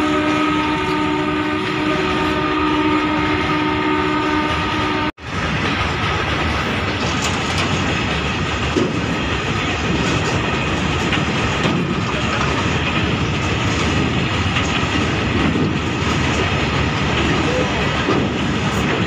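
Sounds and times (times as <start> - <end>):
wheels clickety-clack over track: 0.0 - 19.0.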